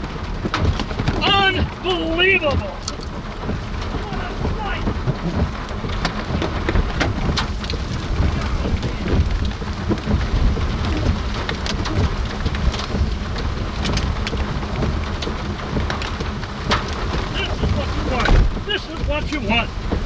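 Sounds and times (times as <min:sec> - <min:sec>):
rain falling: 0:00.0 - 0:20.0
raindrops striking as sharp clicks: 0:00.0 - 0:20.0
steady low rumble: 0:01.4 - 0:20.0.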